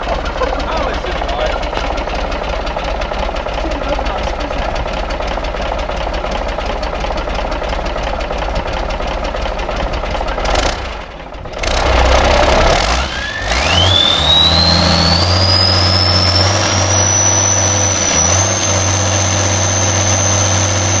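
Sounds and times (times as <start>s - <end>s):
diesel engine cranking and idling: 0.0s - 21.0s
high steady turbo whine: 0.4s - 21.0s.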